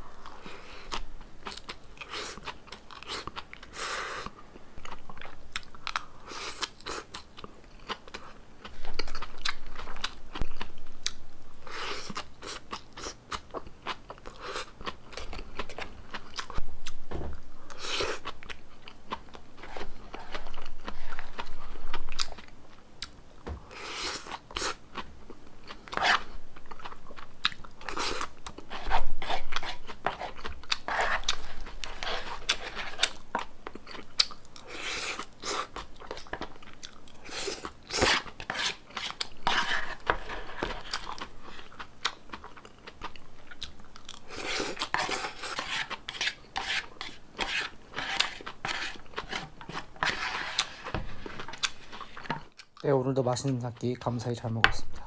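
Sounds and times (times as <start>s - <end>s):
crunching and chewing vegetables: 0.0s - 54.2s.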